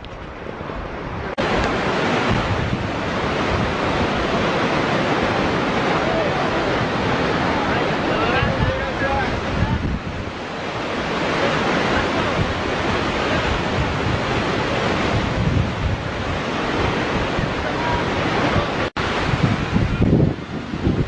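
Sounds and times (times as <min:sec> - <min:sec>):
wind buffeting microphone: 0:00.0 - 0:21.0
waterfall rushing: 0:01.3 - 0:21.0.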